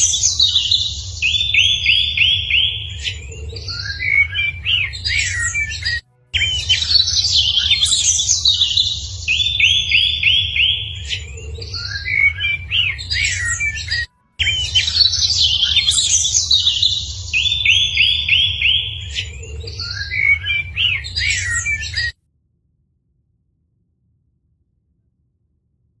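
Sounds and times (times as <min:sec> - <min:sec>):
low rumble: 0:00.0 - 0:21.4
birds chirping and calling: 0:00.0 - 0:22.1
rising whistled notes: 0:00.0 - 0:22.1.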